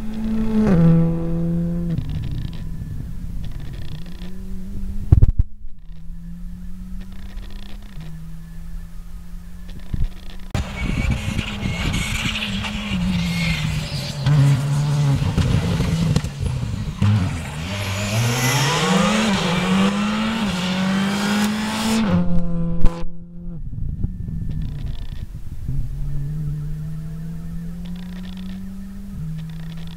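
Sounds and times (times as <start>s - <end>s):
rally car engine at full load: 0.0s - 29.9s.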